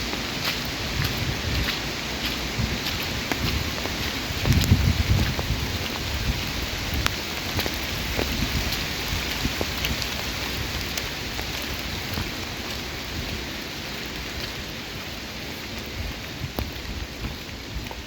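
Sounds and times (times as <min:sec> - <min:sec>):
raindrops ticking: 0:00.0 - 0:18.0
steady rainfall: 0:00.0 - 0:18.0.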